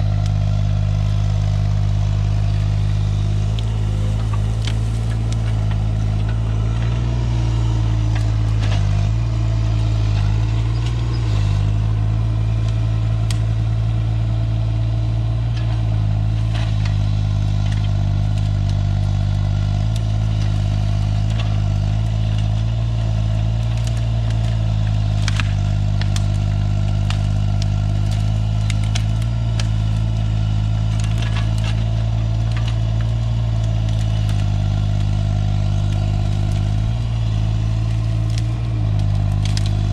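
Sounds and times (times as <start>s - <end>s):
heavy equipment engine running: 0.0s - 39.9s.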